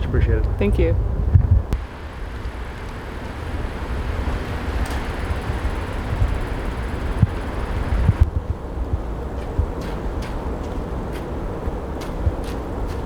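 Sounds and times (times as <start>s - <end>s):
street traffic rush: 0.0s - 13.0s
vehicle passing: 0.0s - 13.0s.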